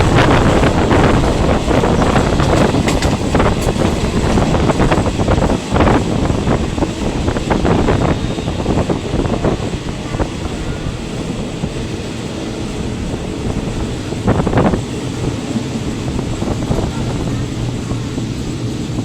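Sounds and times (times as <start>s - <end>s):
train coach rumble and wind: 0.0s - 19.0s.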